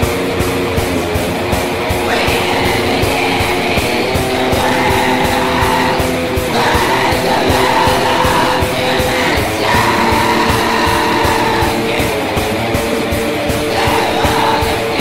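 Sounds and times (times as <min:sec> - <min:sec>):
distorted electric guitars: 0:00.0 - 0:15.0
fast dense drumming: 0:00.0 - 0:15.0
harsh yelled vocal: 0:00.4 - 0:15.0.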